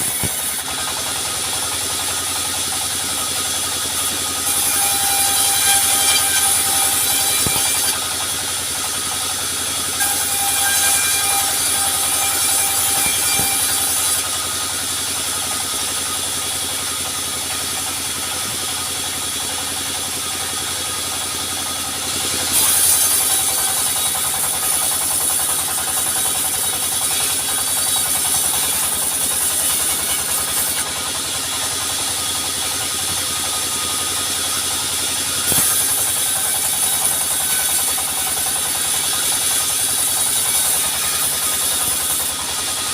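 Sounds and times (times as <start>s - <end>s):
saw cutting through wood: 0.0s - 42.9s
sawmill engine humming: 0.0s - 42.9s.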